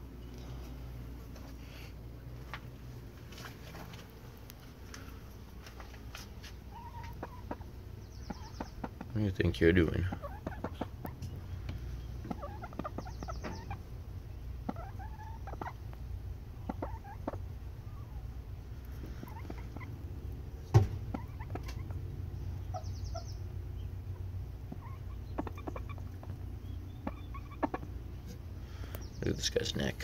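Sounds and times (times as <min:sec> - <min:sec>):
chickens clucking: 0:05.0 - 0:30.0.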